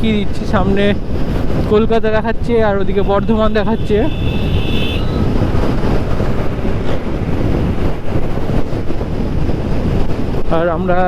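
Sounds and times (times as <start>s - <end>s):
motorcycle engine and tyre rumble: 0.0s - 11.0s
wind buffeting microphone: 0.0s - 11.0s.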